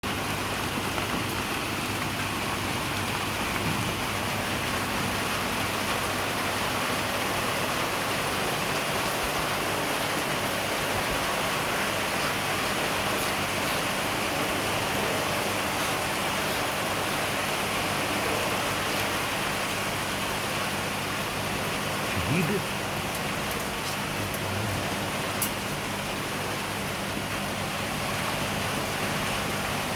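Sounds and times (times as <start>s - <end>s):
steady rushing hiss: 4.0s - 20.1s, 20.7s - 28.6s.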